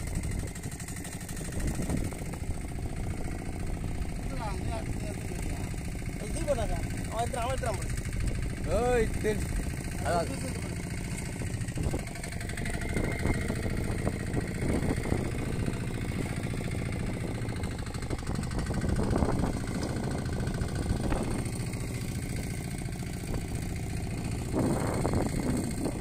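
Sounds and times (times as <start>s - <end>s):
boat engine idling: 0.0s - 26.0s.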